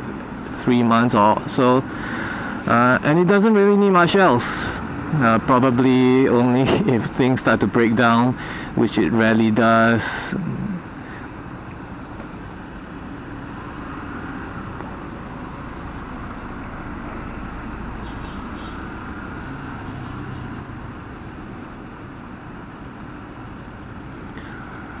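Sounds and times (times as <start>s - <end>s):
traffic noise: 0.0s - 25.0s
wind: 0.0s - 25.0s.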